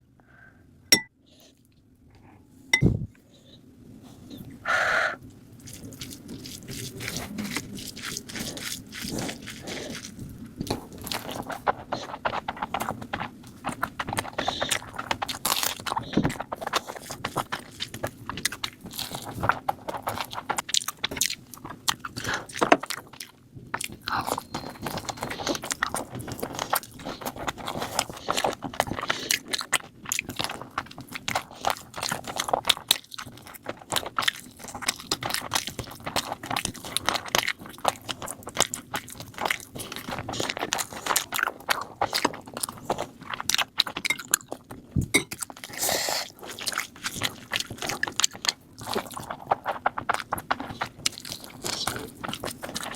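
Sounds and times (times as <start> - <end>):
chewing and biting food: 5.6 - 52.9.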